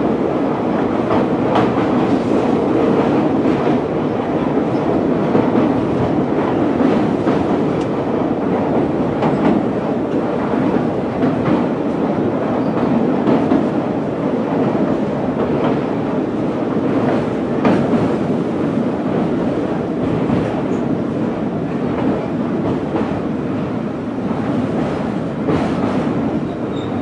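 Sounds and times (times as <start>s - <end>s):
rail joint clacks: 0.0s - 27.0s
train wheels rumbling on rails: 0.0s - 27.0s.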